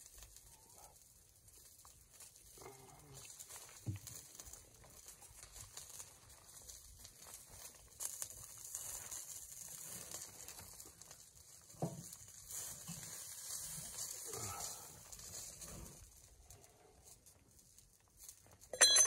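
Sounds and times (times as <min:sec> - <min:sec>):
rain pattering on a tarp: 0:00.0 - 0:18.8
rain poncho crinkling: 0:00.0 - 0:19.0.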